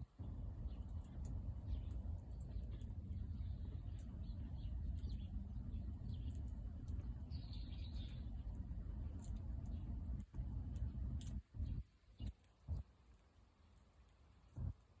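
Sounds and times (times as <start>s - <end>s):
steady low rumble: 0.0s - 12.8s, 14.5s - 14.8s
wood fire crackling: 0.0s - 15.0s.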